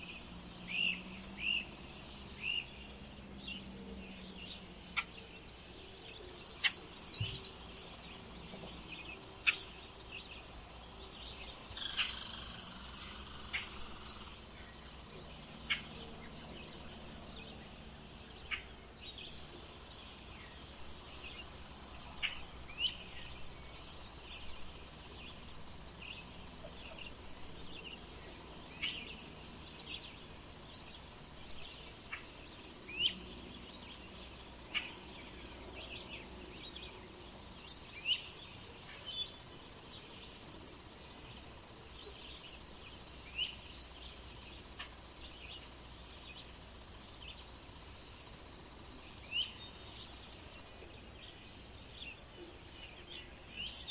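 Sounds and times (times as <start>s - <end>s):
short cricket chirps: 0.0s - 3.6s, 5.9s - 53.9s
insect chorus: 0.0s - 53.9s.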